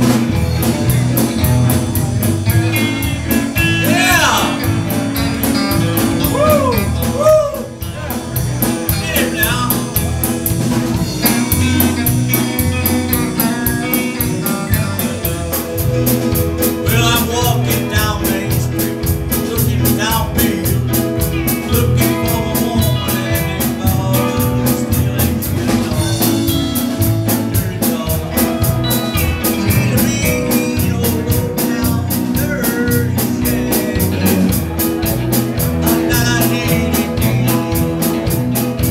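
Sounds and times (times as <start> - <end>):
drum kit beat: 0.0 - 38.9
rockabilly band playing: 0.0 - 38.9
person singing: 2.5 - 5.0, 5.7 - 10.4, 11.1 - 38.9.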